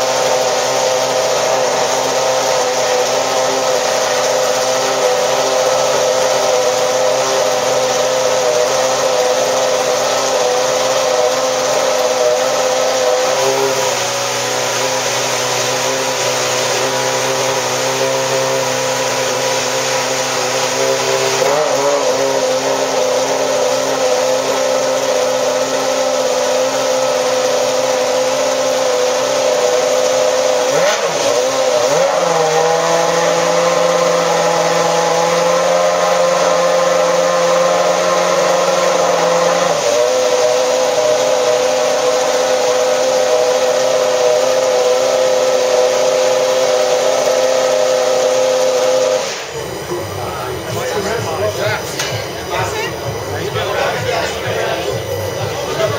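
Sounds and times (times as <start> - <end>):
racing car engine idling: 0.4 - 48.0, 48.7 - 55.9.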